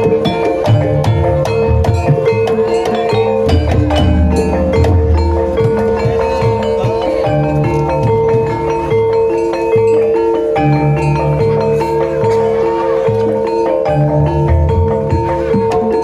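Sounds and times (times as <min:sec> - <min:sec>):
metallophones playing melody: 0:00.0 - 0:16.0.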